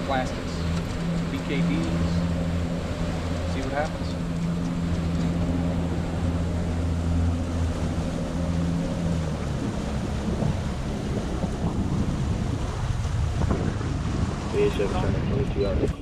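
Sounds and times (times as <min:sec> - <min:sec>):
outboard motor drone: 0:00.0 - 0:16.0
water rushing along hull: 0:00.0 - 0:16.0
wind noise: 0:00.0 - 0:16.0.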